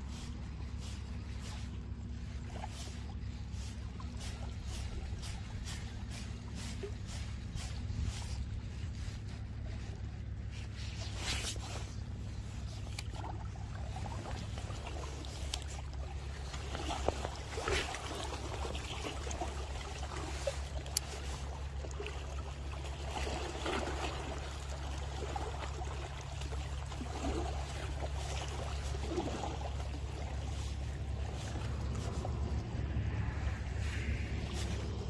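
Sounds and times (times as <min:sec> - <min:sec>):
small waves lapping on rocks: 0:00.0 - 0:32.7
steady low hum: 0:00.0 - 0:35.0.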